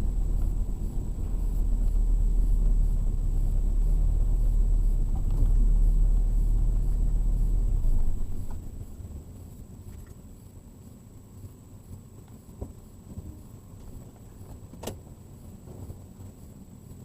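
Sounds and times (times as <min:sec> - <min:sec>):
car rumbling: 0:00.0 - 0:17.0.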